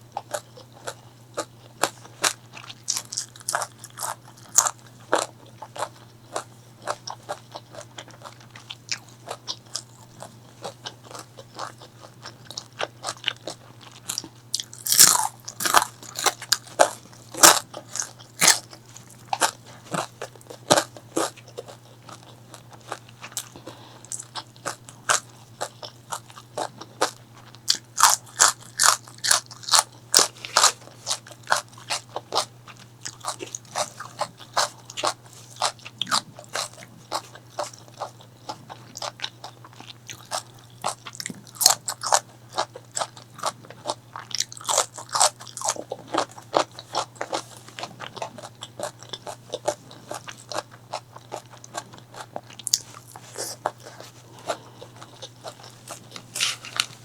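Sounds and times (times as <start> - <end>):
person chewing crispy food: 0.0 - 57.0.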